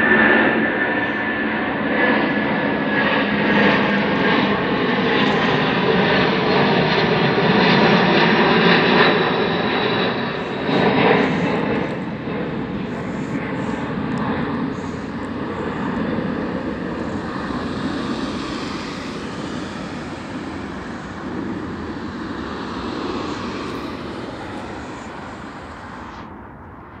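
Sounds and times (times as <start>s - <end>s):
jet airliner roar: 0.0s - 27.0s.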